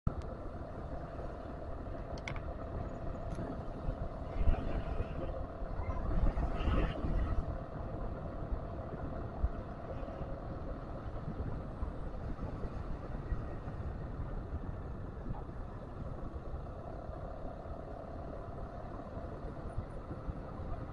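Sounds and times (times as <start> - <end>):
road and wind rumble: 0.1 - 20.9.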